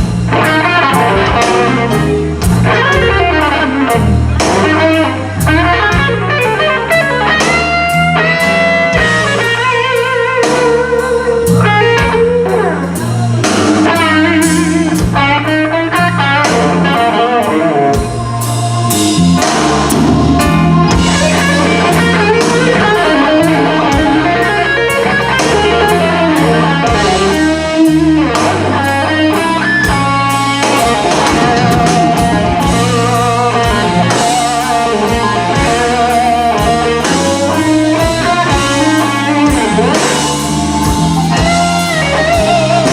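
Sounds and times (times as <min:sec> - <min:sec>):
blues band playing: 0:00.0 - 0:42.9
electric guitar lead: 0:00.0 - 0:42.9.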